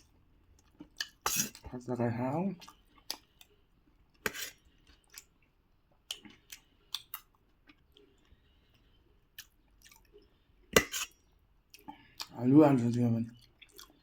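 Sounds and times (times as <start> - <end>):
person chewing food: 0.0 - 1.7, 2.6 - 12.4, 13.4 - 14.0.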